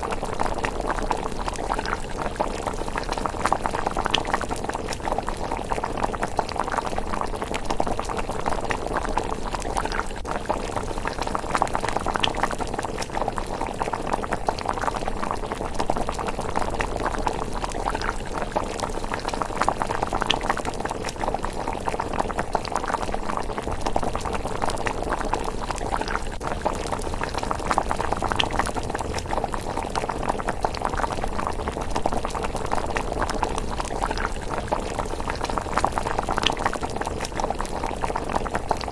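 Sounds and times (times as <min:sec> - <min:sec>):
porridge bubbling and popping: 0:00.0 - 0:38.9.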